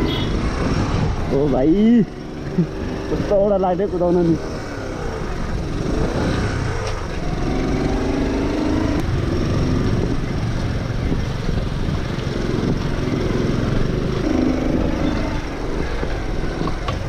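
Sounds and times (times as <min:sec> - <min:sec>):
wind rushing over microphone: 0:00.0 - 0:03.5, 0:05.2 - 0:07.9, 0:08.8 - 0:17.0
motorcycle engine running: 0:00.0 - 0:17.0.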